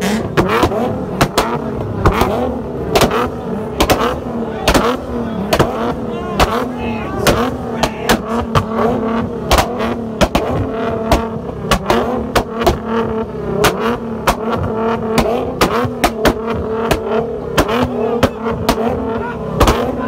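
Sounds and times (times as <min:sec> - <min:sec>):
car engine at high revs: 0:00.0 - 0:20.0
exhaust bangs: 0:00.0 - 0:20.0.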